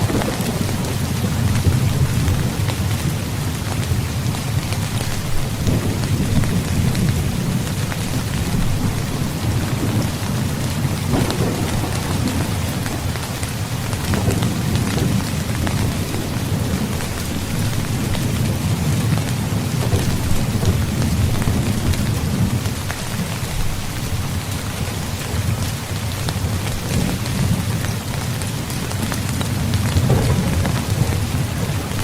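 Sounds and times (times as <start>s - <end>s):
heavy rain: 0.0s - 32.0s
rolling thunder rumble: 0.0s - 32.0s.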